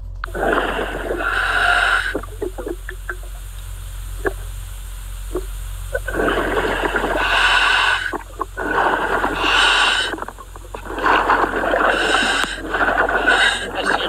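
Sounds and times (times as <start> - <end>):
low hum: 0.0 - 14.0
diver breathing through regulator: 0.2 - 3.3, 5.3 - 14.0
bubbles: 0.2 - 14.0.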